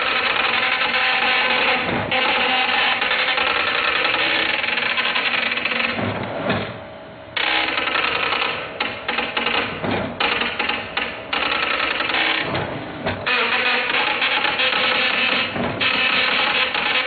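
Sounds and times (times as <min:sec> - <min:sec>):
dot matrix printer printing: 0:00.0 - 0:06.2, 0:07.4 - 0:17.0.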